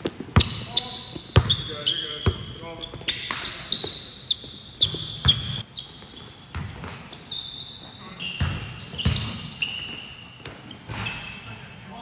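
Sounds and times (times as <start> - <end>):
sneakers squeaking: 0.0 - 11.8.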